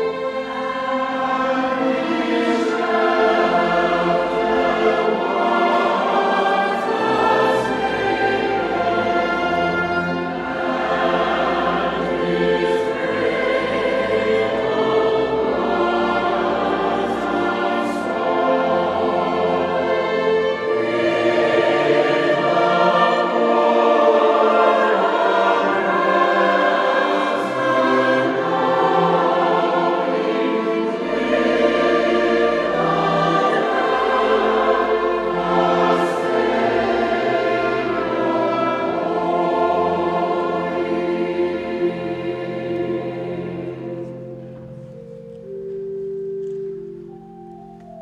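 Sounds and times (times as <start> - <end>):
choir singing: 0.0 - 46.0
instrumental accompaniment: 0.0 - 48.0.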